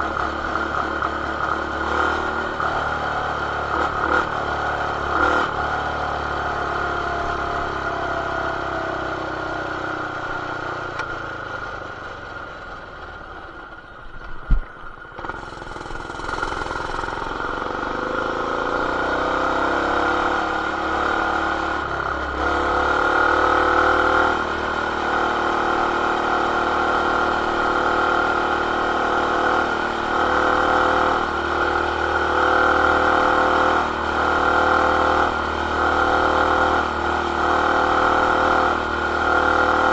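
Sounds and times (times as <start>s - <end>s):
mini bike engine revving: 0.0s - 9.7s, 15.2s - 39.9s.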